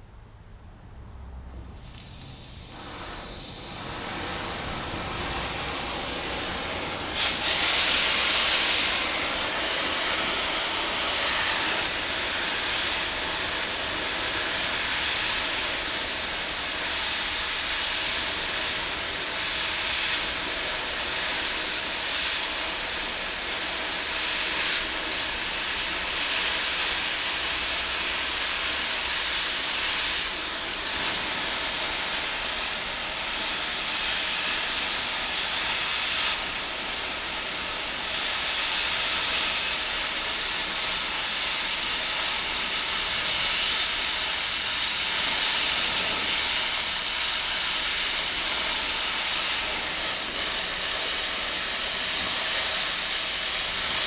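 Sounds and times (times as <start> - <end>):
cutting torch hissing: 1.8 - 54.0.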